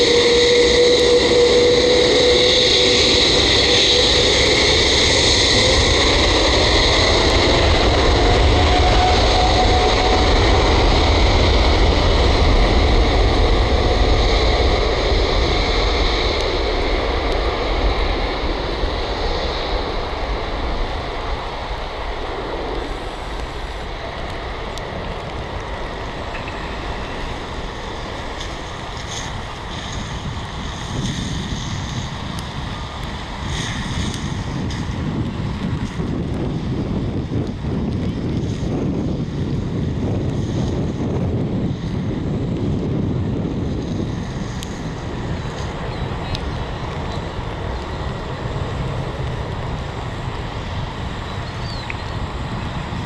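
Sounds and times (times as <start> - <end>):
jet engines roaring on takeoff: 0.0 - 53.0.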